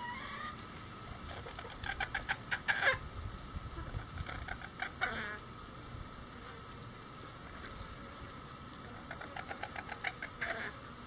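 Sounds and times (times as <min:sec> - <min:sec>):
steady high hum: 0:00.0 - 0:11.0.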